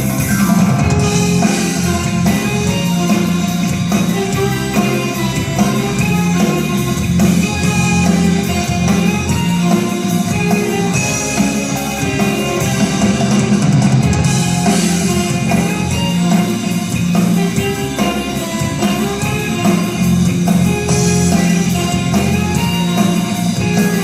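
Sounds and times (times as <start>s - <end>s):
rock music with guitar and drums: 0.0s - 24.0s.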